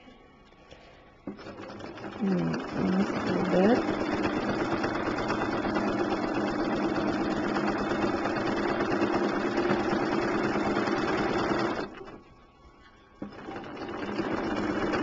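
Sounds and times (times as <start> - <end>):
sewing machine running: 1.3 - 12.2, 13.2 - 15.0.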